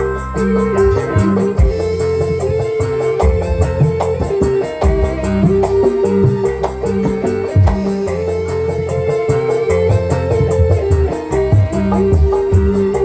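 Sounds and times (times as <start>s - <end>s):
bass line: 0.0s - 13.0s
drum beat: 0.0s - 13.0s
held melody line: 0.0s - 13.0s.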